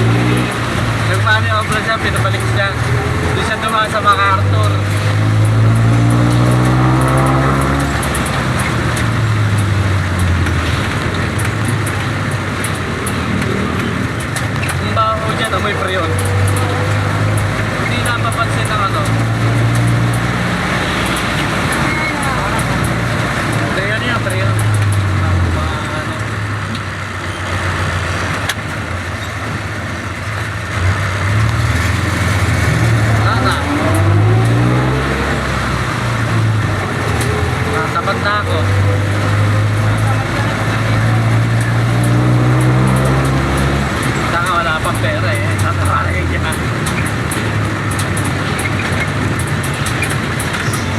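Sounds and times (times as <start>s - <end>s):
road noise: 0.0s - 50.9s
vehicle engine running: 0.0s - 50.9s.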